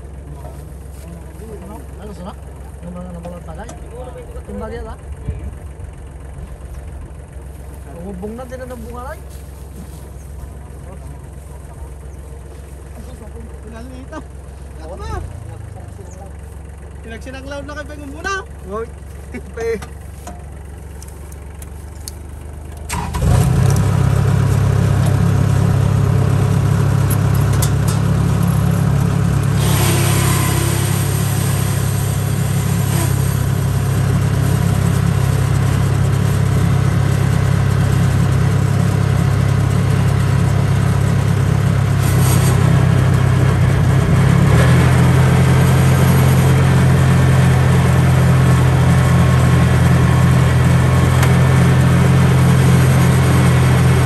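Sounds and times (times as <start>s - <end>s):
harvester engine revving: 0.0s - 54.0s.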